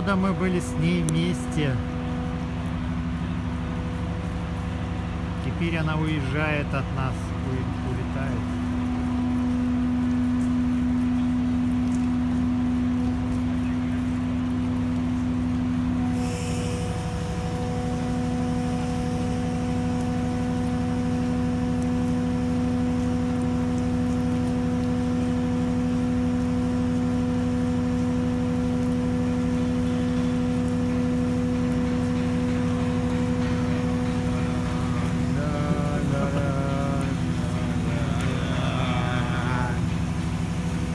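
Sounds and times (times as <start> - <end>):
ship engines droning: 0.0 - 40.9.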